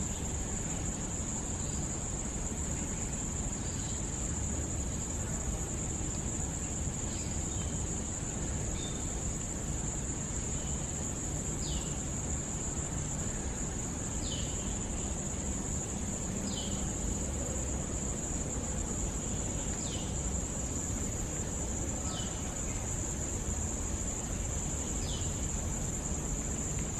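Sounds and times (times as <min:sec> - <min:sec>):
insect chorus drone: 0:00.0 - 0:26.9.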